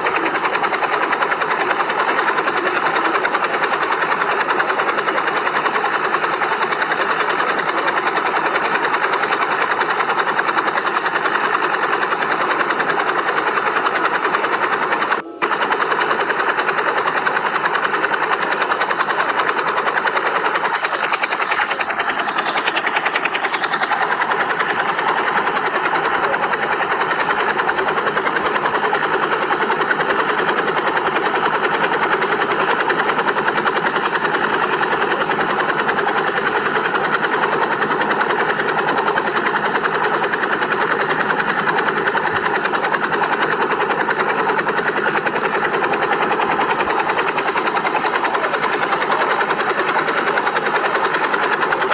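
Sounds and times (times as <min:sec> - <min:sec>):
small helicopter rotor whirring: 0:00.0 - 0:51.9.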